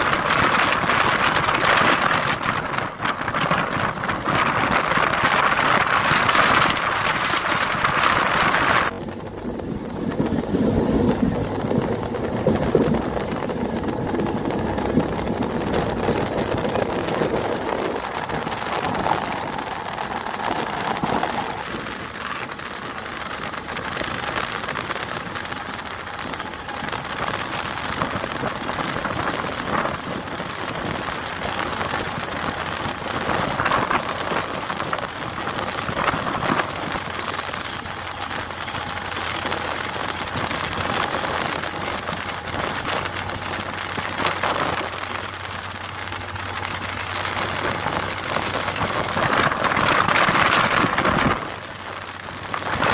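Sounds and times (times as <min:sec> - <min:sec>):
wheel-on-rail noise: 0:00.0 - 0:52.9
wind rushing: 0:00.0 - 0:52.9.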